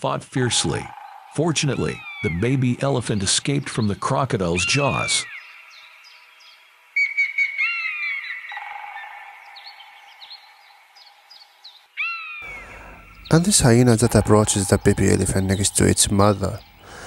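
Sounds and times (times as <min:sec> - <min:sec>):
birds chirping and whistling: 0:00.5 - 0:17.0.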